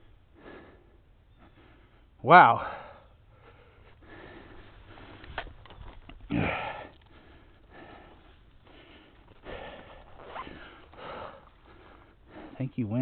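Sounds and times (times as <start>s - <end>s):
man breathing and sniffing: 0.0s - 12.7s.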